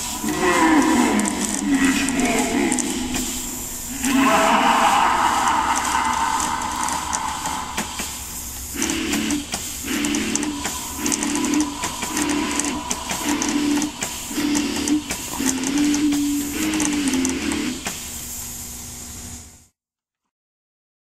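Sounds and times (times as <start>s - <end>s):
spooky soundtrack music: 0.0s - 17.8s
crackly hiss: 0.0s - 19.5s.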